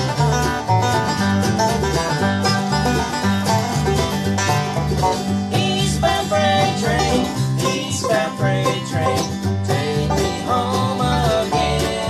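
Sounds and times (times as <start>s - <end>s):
banjo picking: 0.0s - 12.0s
strummed acoustic guitar: 0.0s - 12.0s
upright bass line: 0.0s - 12.0s.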